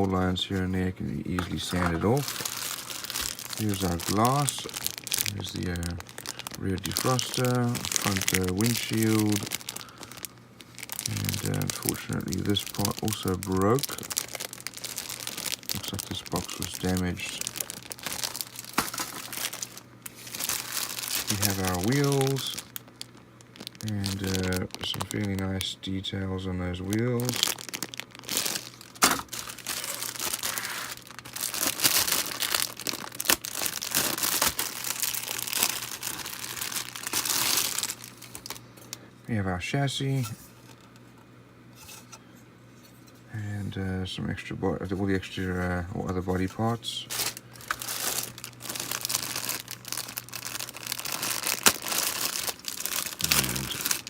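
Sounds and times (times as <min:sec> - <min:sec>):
plastic packaging crinkling: 0:00.0 - 0:39.1, 0:44.9 - 0:54.0.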